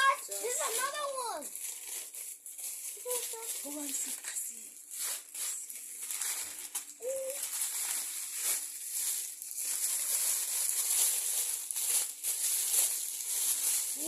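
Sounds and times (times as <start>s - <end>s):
wrapping paper crinkling and tearing: 0.0s - 14.0s.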